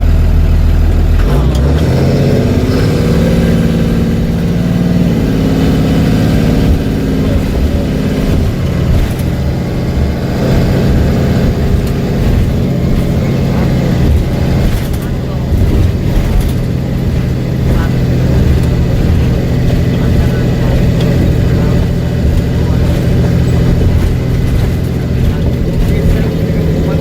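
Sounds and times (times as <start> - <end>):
bus engine accelerating: 0.0 - 27.0.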